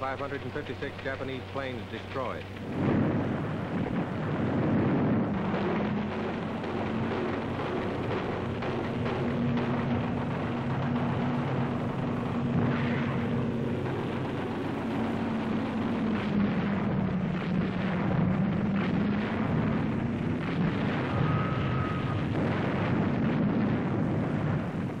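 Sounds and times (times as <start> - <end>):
propeller plane engine droning: 0.0 - 25.0
bangs: 2.4 - 25.0.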